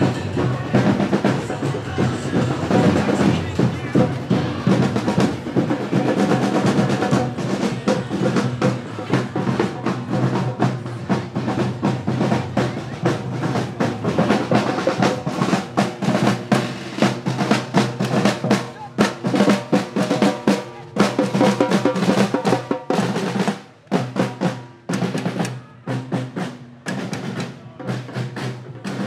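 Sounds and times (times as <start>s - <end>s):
snare drums: 0.0s - 29.0s.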